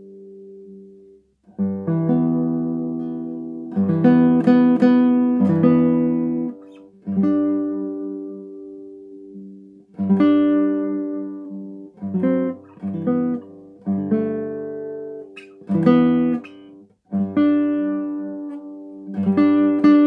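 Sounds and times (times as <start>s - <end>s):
classical guitar fingerstyle: 0.0s - 20.0s.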